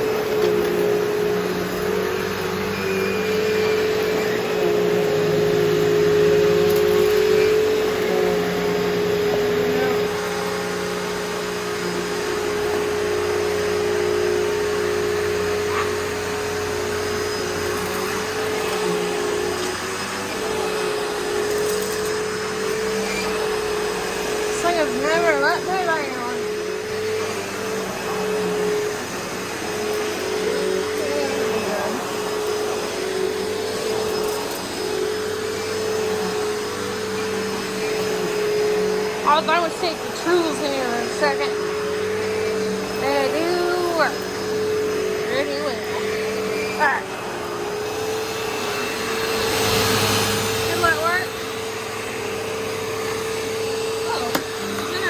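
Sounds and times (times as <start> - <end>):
upright vacuum cleaner running: 0.0 - 55.0.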